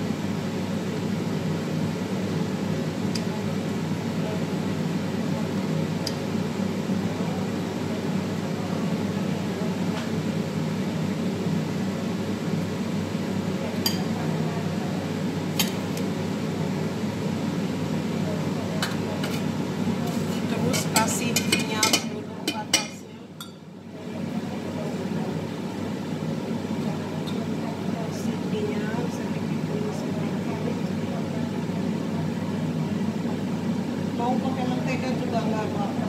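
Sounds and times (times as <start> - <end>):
ventilation machinery hum: 0.0 - 36.0.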